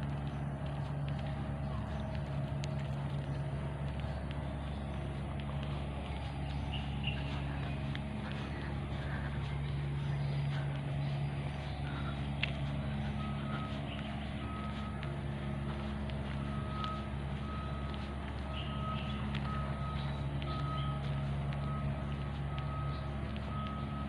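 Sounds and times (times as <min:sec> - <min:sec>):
jogging footsteps on concrete: 0:00.0 - 0:24.0
steady low hum: 0:00.0 - 0:24.0.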